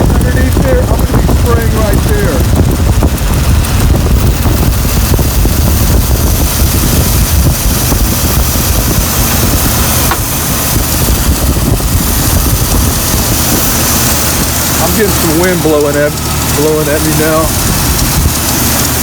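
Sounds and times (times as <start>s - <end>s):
wind on microphone: 0.0s - 15.5s, 16.1s - 19.0s
car engine idling: 0.0s - 19.0s.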